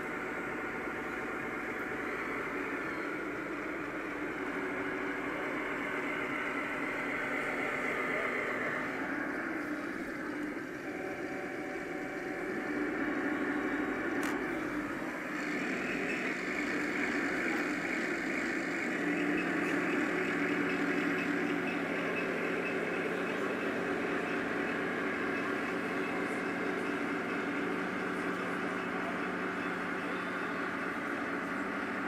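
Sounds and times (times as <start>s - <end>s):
model tanks mechanical hum: 0.0s - 32.0s.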